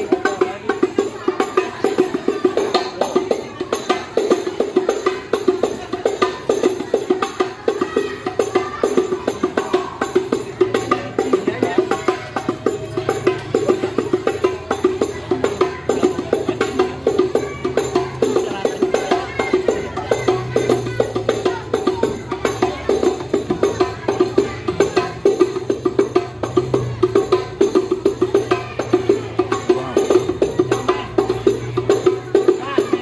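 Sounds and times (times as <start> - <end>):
frame drums beaten fast: 0.0 - 33.0.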